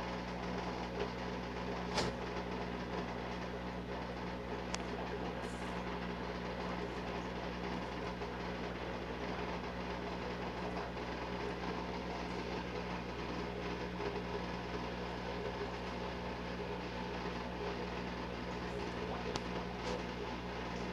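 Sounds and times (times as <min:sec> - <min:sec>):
low mechanical hum: 0:00.0 - 0:20.9.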